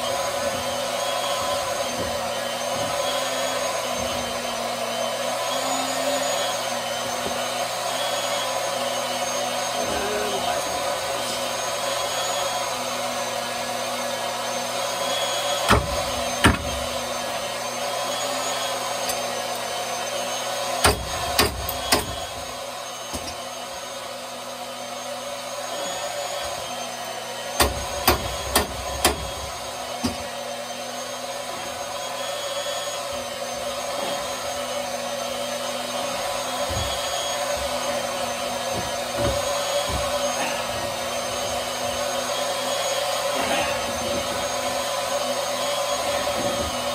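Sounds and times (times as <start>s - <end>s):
pump motor hum: 0.0s - 46.9s.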